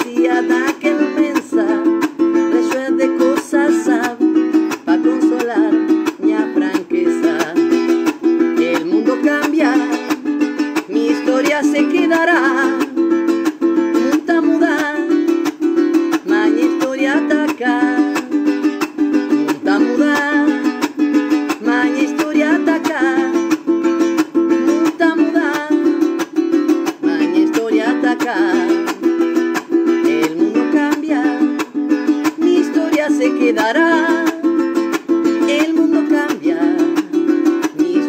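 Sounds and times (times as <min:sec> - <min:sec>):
ukulele strumming: 0:00.0 - 0:38.0.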